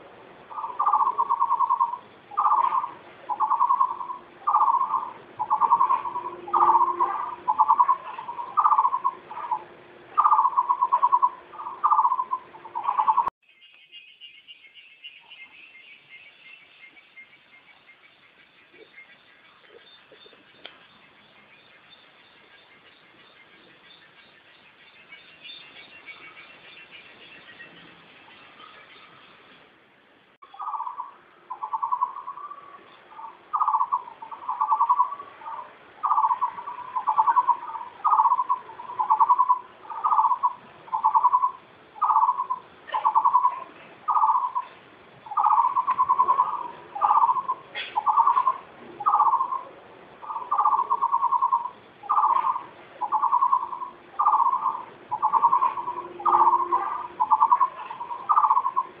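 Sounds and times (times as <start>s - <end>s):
bird calling low pulsed note: 0.0s - 27.8s, 30.4s - 59.0s.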